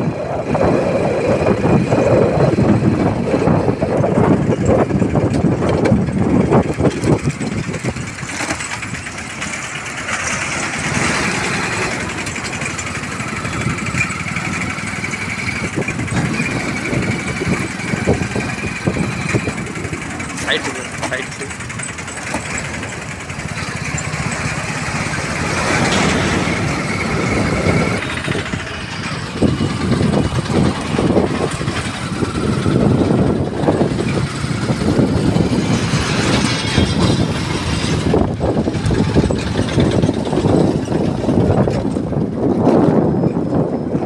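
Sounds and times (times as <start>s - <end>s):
vehicle engine and tyre rumble: 0.0s - 44.0s.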